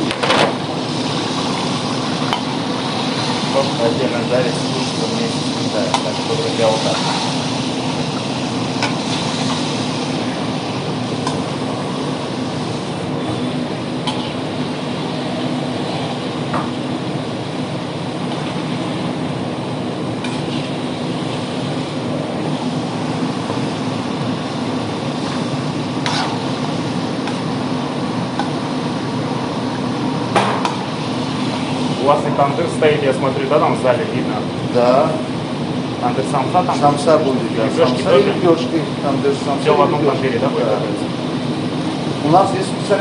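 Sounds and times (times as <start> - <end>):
extractor fan drone: 0.0 - 43.0.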